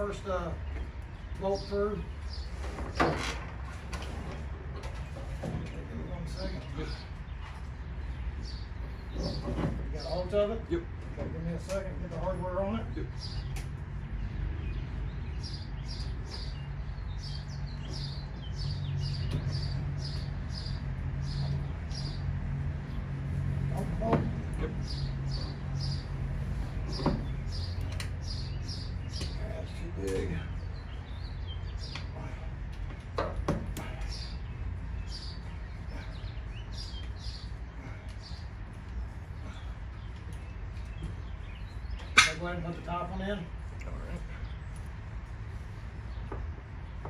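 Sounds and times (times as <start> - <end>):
bird chirping: 4.8 - 33.0, 33.8 - 45.0.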